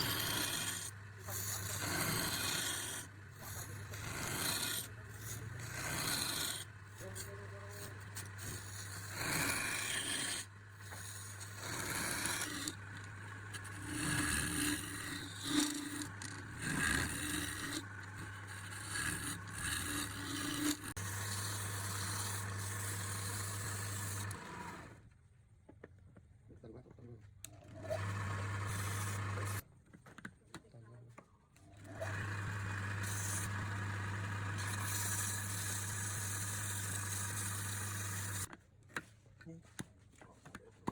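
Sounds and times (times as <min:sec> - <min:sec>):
lathe motor humming: 0:00.0 - 0:25.0, 0:27.7 - 0:29.6, 0:31.8 - 0:38.5
tool scraping spinning wood: 0:00.0 - 0:25.0, 0:27.6 - 0:29.6, 0:31.7 - 0:38.6.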